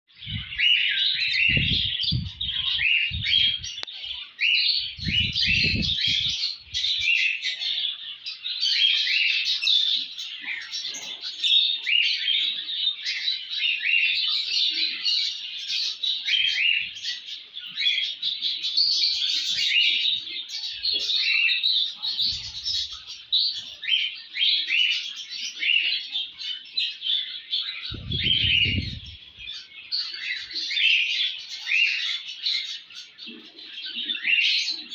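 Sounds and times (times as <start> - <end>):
songbirds chirping and twittering: 0.1 - 34.9.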